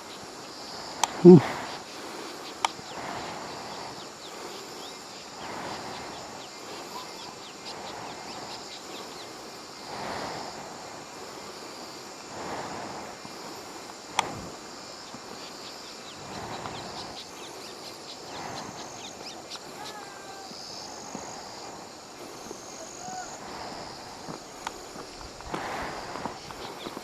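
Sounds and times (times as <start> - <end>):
insect buzz: 0.0 - 27.0
soft noisy swells: 0.0 - 27.0
birds chirping: 0.1 - 10.0, 14.3 - 27.0.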